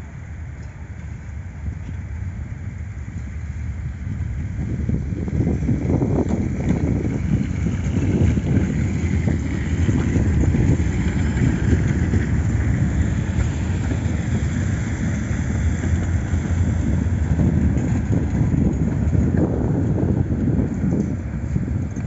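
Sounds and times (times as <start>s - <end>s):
steel wheels rumbling on rails: 0.0s - 22.0s
wind buffeting microphone: 0.0s - 22.0s.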